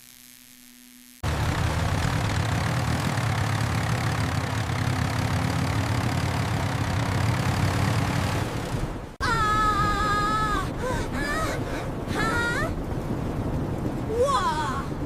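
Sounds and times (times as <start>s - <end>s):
tractor engine rumbling: 1.2s - 15.0s.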